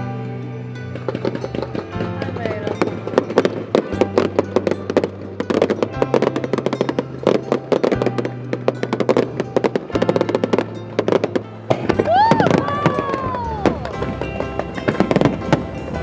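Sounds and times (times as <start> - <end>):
fireworks crackling: 0.0 - 16.0
music with low notes: 0.0 - 16.0.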